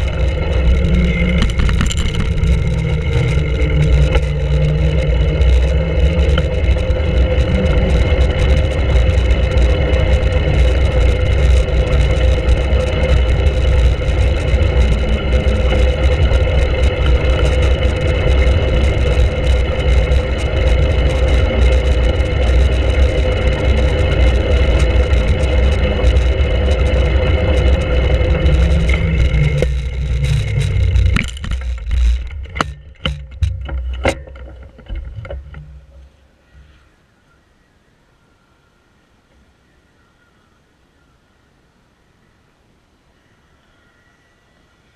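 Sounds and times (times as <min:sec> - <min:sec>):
bicycle tyre noise: 0:00.0 - 0:36.2
steady hum: 0:00.0 - 0:43.7.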